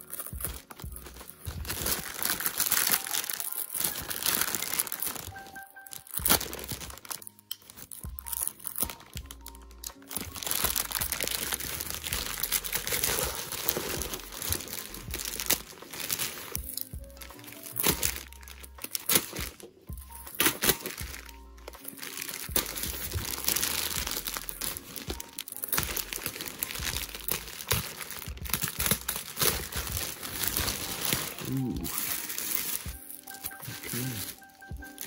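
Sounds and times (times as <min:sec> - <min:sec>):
music playing: 0:00.0 - 0:35.0
plastic bag crinkling: 0:00.0 - 0:35.0.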